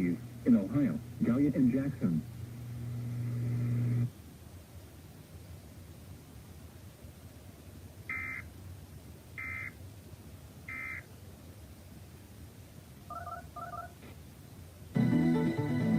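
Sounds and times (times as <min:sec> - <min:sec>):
faint hum: 0:00.0 - 0:15.9.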